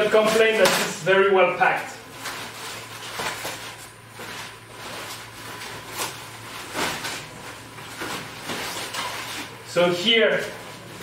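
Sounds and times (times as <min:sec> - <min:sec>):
foam sheet rustling and crinkling: 0:00.0 - 0:01.0, 0:01.6 - 0:11.0.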